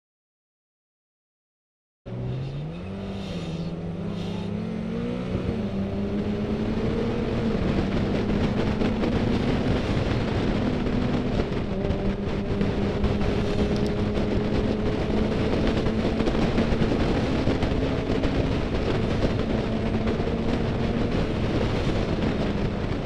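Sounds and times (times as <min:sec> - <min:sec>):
car engine accelerating: 0:02.1 - 0:23.0
road and wind noise: 0:02.1 - 0:23.0.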